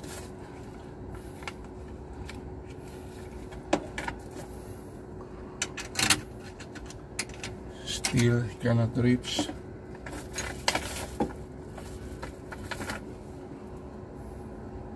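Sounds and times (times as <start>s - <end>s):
background hum: 0.0s - 14.9s.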